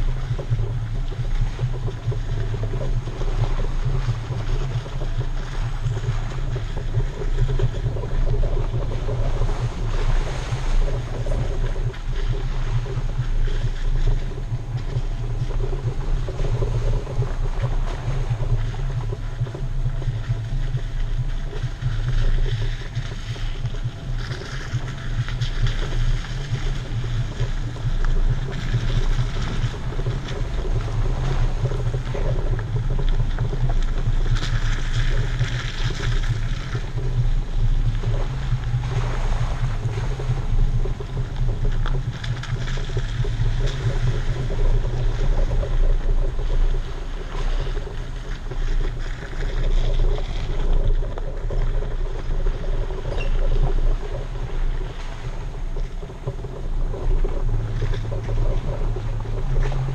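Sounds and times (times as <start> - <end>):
engine and tires rumbling: 0.0 - 59.9
wind buffeting microphone: 0.0 - 59.9.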